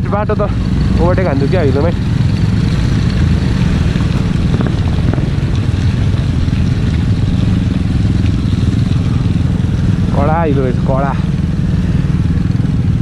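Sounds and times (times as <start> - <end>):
motor scooter engine running: 0.0 - 13.0.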